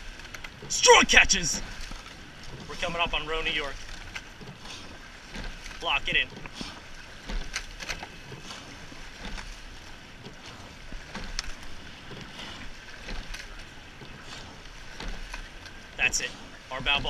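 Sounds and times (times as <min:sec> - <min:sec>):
oar blades splashing: 0:00.0 - 0:17.0
oars clicking in oarlocks: 0:00.0 - 0:17.0
rushing water: 0:00.0 - 0:17.0.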